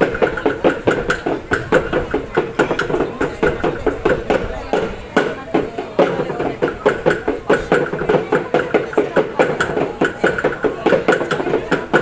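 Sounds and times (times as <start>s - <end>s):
drum struck in steady beat: 0.0s - 12.0s.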